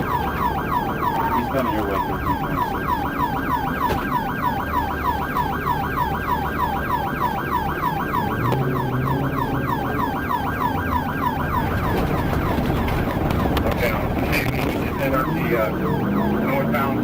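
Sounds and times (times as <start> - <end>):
police siren yelping: 0.0 - 17.0
road and engine noise: 0.0 - 17.0.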